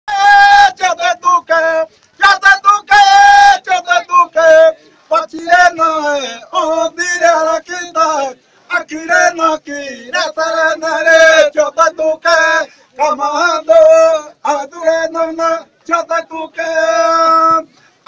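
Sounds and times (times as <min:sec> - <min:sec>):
group singing a chant: 0:00.1 - 0:17.8.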